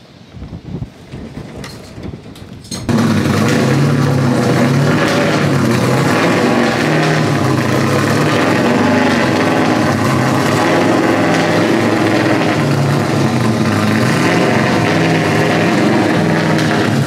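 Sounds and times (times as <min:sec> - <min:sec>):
car engine running at low revs: 0:02.9 - 0:17.0.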